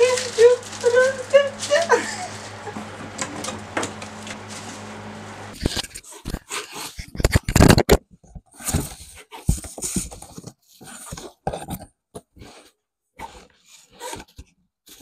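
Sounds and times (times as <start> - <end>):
cardboard scraping and rustling: 0.0 - 15.0.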